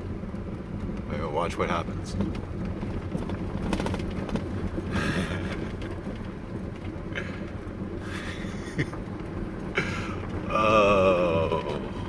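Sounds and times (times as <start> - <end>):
car knocking and rattling: 0.0 - 12.0
tyres rumbling on dirt road: 0.0 - 12.0.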